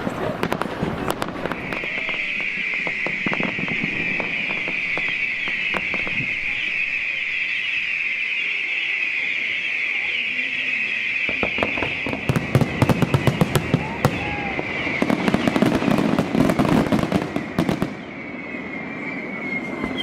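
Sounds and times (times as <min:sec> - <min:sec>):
fireworks hissing: 0:00.0 - 0:20.0.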